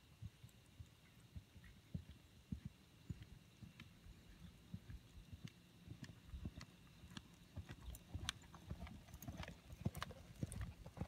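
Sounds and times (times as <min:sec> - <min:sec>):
horse hooves thudding in sand: 0:00.0 - 0:11.0
sharp hoof clicks: 0:00.0 - 0:11.0.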